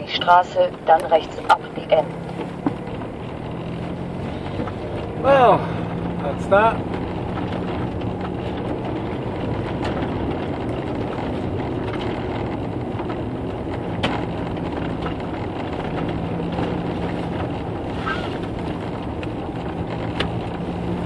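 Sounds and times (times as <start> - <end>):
engine hum inside vehicle: 0.0 - 21.0
tyre and road noise: 0.0 - 21.0.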